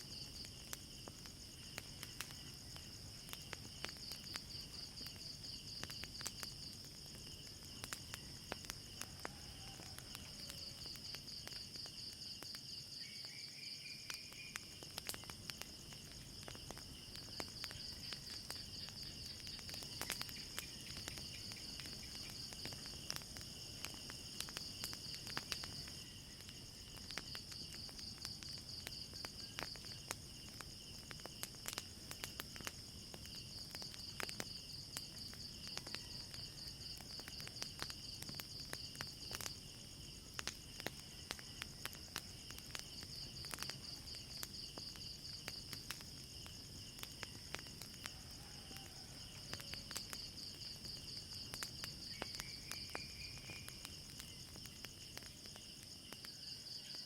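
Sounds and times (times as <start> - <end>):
crickets chirping: 0.0 - 57.0
wood fire crackling: 0.0 - 57.0.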